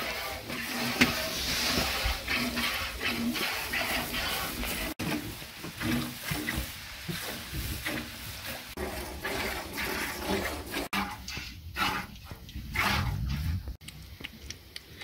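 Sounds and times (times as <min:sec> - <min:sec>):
noisy barn background: 0:00.0 - 0:15.0.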